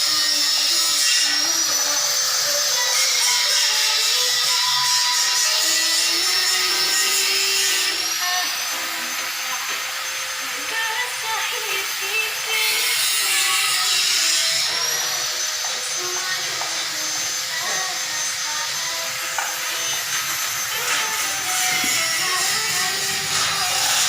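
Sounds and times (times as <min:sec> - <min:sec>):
machinery with high-pitched whine: 0:00.0 - 0:24.0.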